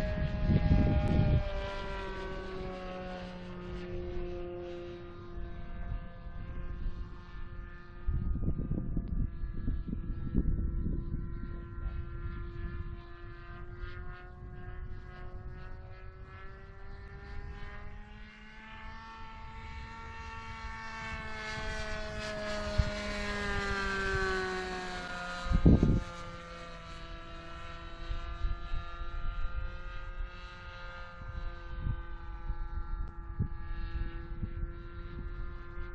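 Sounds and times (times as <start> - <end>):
model plane propeller drone: 0.0 - 35.9.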